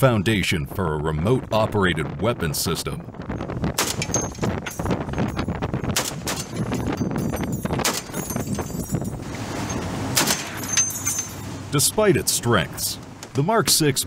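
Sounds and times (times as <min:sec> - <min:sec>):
continuous low rumble: 0:00.0 - 0:14.0.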